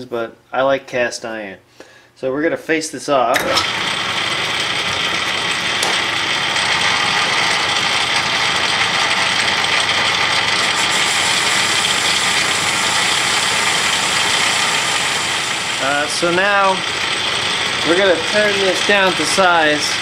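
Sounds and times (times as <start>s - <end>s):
metal lathe whine and hiss: 3.6s - 20.0s.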